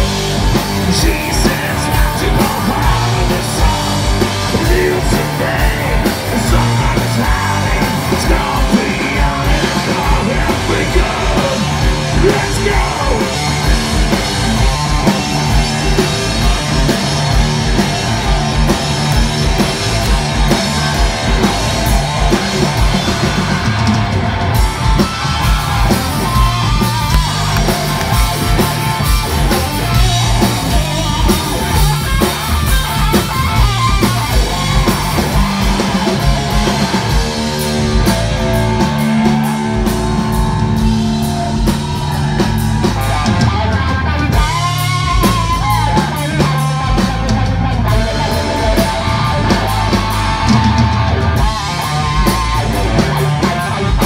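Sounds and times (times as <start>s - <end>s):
bass guitar: 0.0s - 54.0s
distorted electric guitars: 0.0s - 54.0s
drums: 0.0s - 54.0s
yelled vocals: 0.0s - 54.0s.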